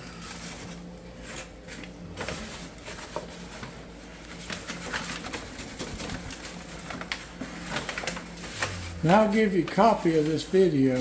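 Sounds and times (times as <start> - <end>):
paper bag rustling and crinkling: 0.0 - 11.0.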